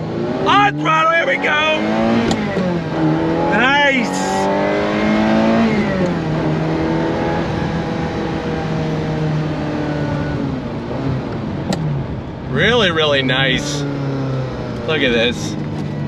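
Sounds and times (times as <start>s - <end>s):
car engine under throttle: 0.0s - 16.0s.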